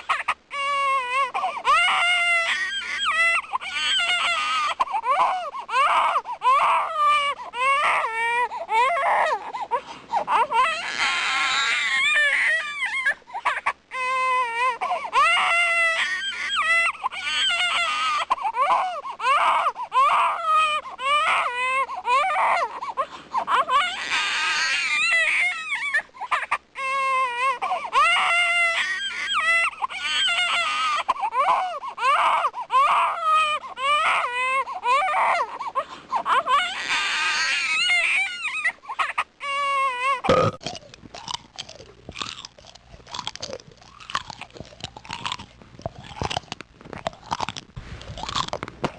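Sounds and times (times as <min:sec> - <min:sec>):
infant crying: 0:00.0 - 0:40.6.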